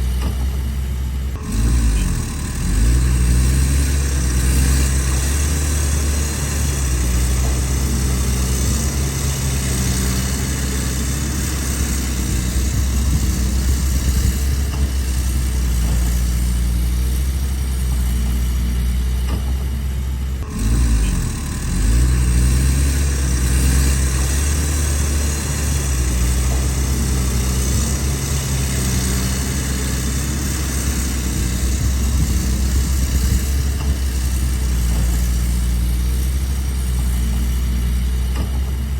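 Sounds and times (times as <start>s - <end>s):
excavator diesel engine humming: 0.0s - 38.9s.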